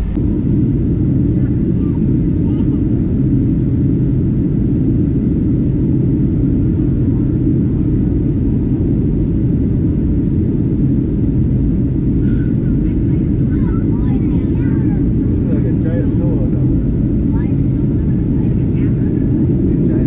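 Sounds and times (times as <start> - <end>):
airliner cabin low rumble: 0.0 - 20.0.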